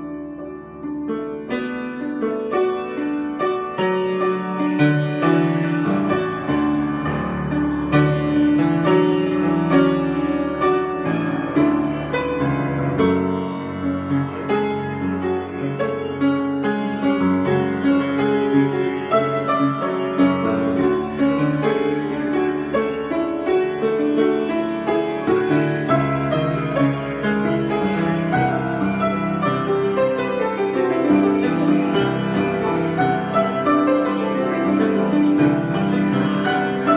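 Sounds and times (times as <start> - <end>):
piano improvisation: 0.0 - 36.9.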